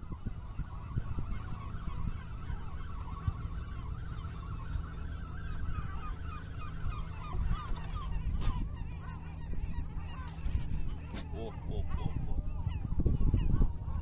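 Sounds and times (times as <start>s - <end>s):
gulls calling: 0.0s - 14.0s
steady low rumble: 0.0s - 14.0s.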